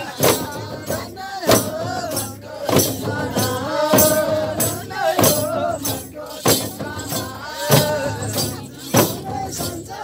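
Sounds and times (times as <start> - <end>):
jingling percussion strikes: 0.0 - 10.0
voices singing folk melody: 0.0 - 10.0.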